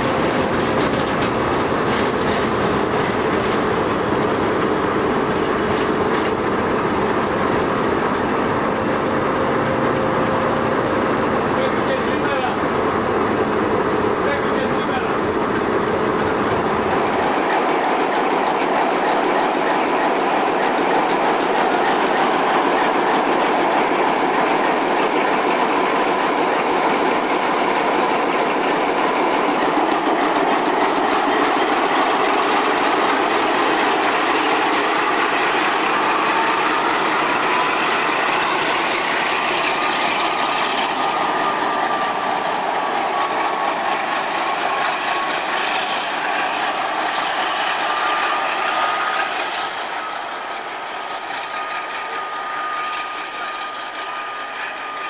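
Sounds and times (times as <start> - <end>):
locomotive diesel engine running: 0.0 - 55.0.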